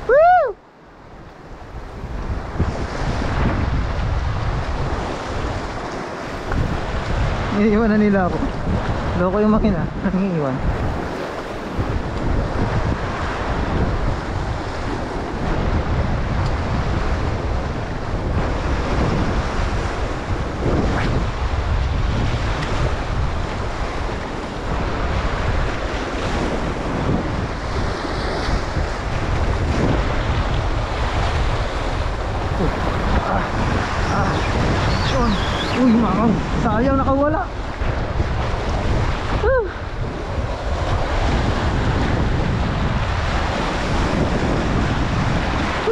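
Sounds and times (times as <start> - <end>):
waves washing on shore: 0.0 - 45.9
wind buffeting microphone: 0.0 - 45.9.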